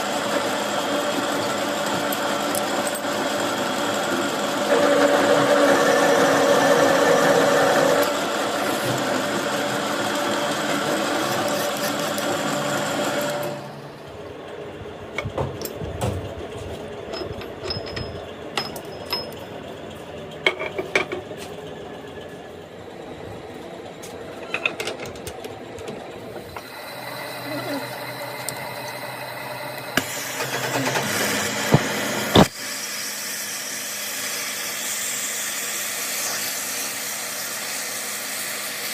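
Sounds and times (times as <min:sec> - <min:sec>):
workshop machine motor running: 0:00.0 - 0:38.9.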